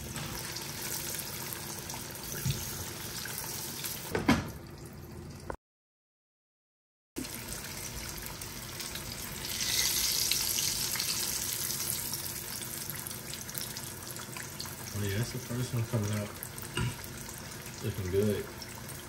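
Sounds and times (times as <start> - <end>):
fish sizzling in hot oil: 0.0 - 4.1, 7.2 - 19.0.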